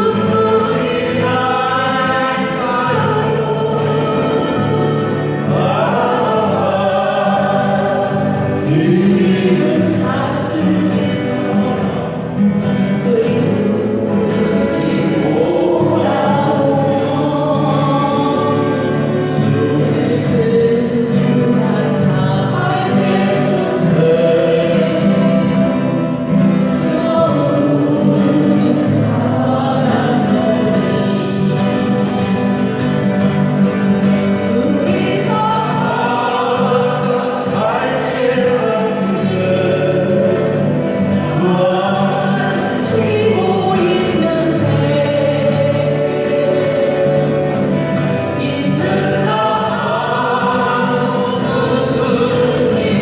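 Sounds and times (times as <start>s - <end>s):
acoustic guitars: 0.0s - 53.0s
group singing a slow ballad: 0.0s - 53.0s.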